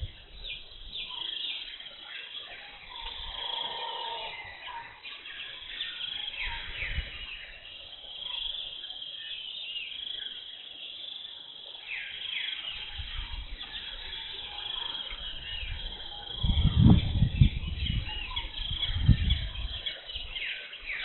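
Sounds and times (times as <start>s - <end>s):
birds calling: 0.0s - 21.0s
chorus of birds and insects: 0.0s - 21.0s.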